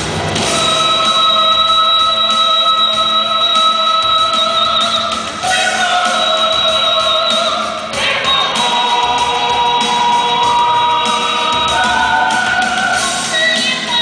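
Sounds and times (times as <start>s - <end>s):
amplified backing music: 0.0s - 14.0s
woman singing into a microphone: 0.5s - 14.0s.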